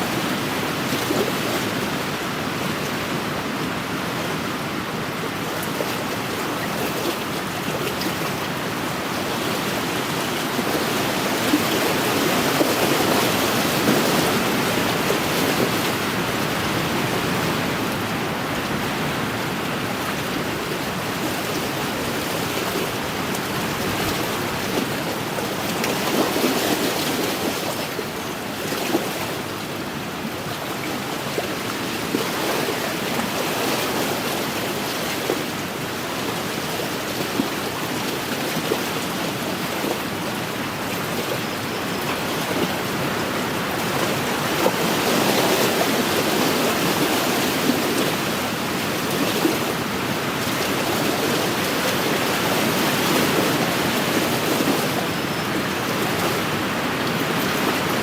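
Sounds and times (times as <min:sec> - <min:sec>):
waves washing against shore: 0:00.0 - 0:58.0.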